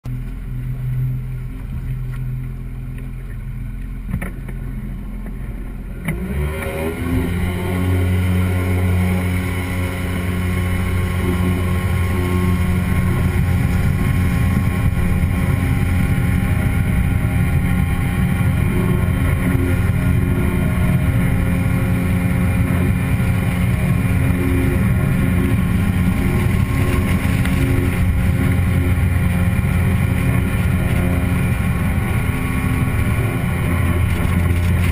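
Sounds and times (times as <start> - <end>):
boat jet motor running: 0.0 - 34.9.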